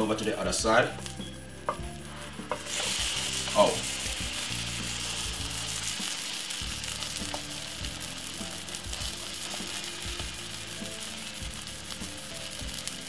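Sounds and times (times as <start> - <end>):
omelette sizzling in oil: 0.0 - 13.0.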